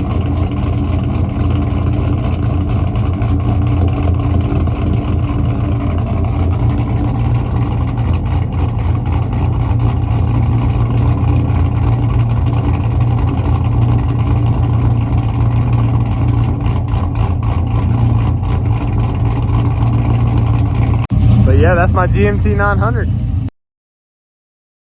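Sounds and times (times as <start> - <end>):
v eight engine idling: 0.0 - 23.5.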